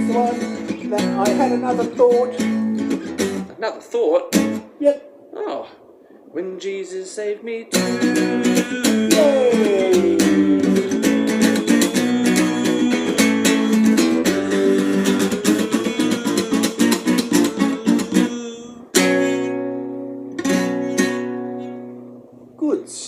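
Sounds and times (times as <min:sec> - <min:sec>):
strummed acoustic guitar: 0:00.0 - 0:03.5, 0:04.3 - 0:04.7, 0:07.7 - 0:22.3.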